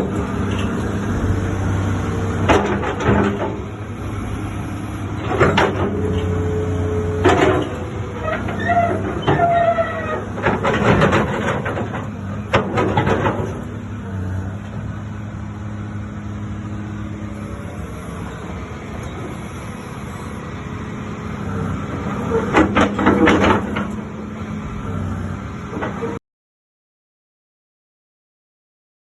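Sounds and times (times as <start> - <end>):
excavator diesel engine running: 0.0 - 26.2.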